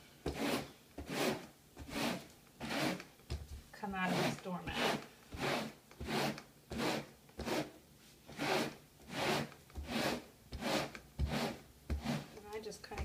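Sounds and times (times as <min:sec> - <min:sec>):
broom scraping a doormat: 0:00.3 - 0:03.0, 0:03.8 - 0:12.4.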